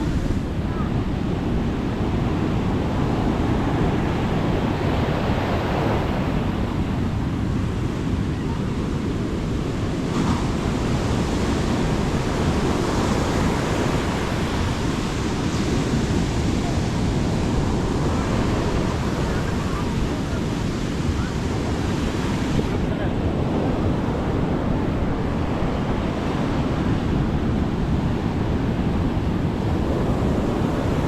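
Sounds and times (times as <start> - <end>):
sea waves breaking on beach: 0.0 - 31.0
wind rumbling on microphone: 0.0 - 31.0.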